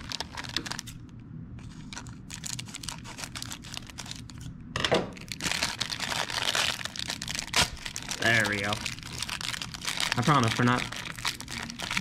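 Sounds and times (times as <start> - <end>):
foil wrapper crinkling: 0.0 - 1.0, 1.7 - 4.5, 5.2 - 12.0.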